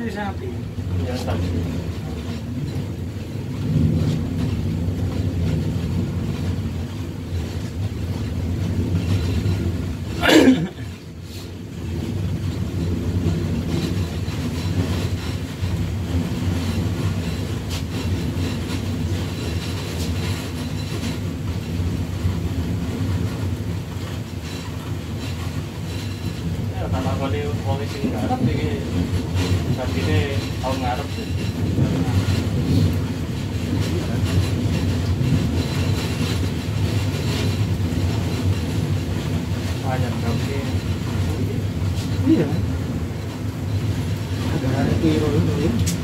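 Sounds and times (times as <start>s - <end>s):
train wheels rumbling: 0.0s - 46.0s.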